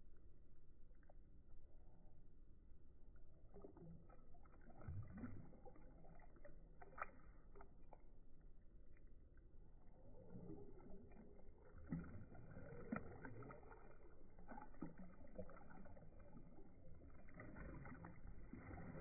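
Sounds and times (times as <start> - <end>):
water sloshing in pool: 0.1 - 19.0.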